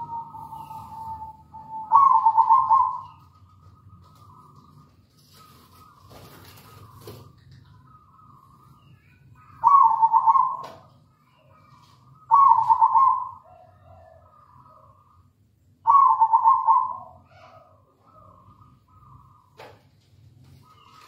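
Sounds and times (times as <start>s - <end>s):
dove cooing: 0.0s - 8.6s, 9.4s - 10.9s, 11.6s - 15.2s, 15.8s - 19.4s.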